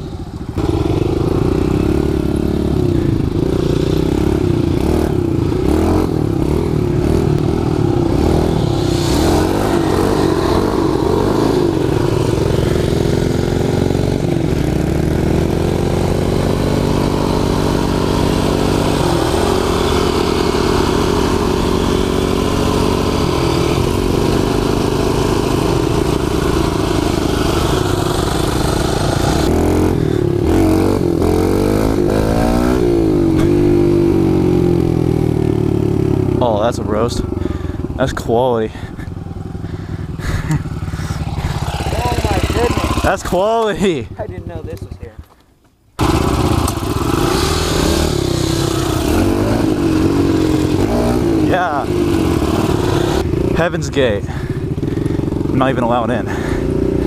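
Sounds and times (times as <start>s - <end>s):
pit bike engine revving: 0.0s - 45.1s, 46.0s - 57.0s.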